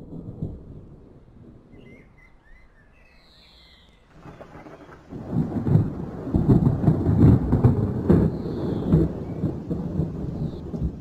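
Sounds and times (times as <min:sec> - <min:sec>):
thunder rumbling: 0:00.0 - 0:02.0, 0:04.1 - 0:11.0.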